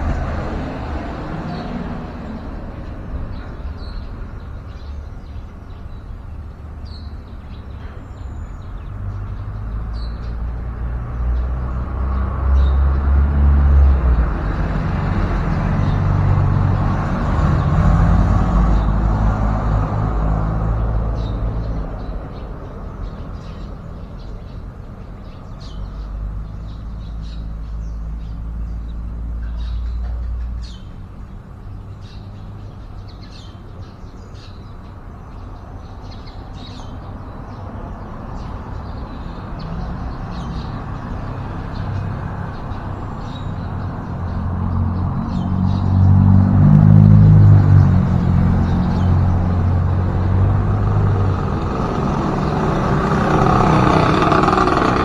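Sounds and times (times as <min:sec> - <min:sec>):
vehicle engine rumbling past: 0:00.0 - 0:05.5, 0:08.1 - 0:30.8, 0:36.8 - 0:55.0
road traffic: 0:00.0 - 0:55.0.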